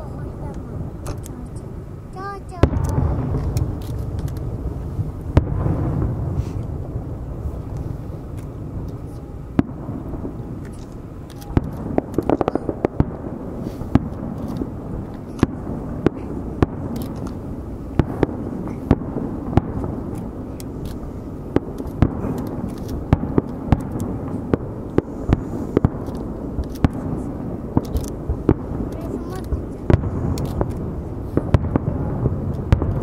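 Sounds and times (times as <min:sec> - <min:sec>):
firework shells bursting: 0:00.0 - 0:33.0
low background rumble: 0:00.0 - 0:33.0.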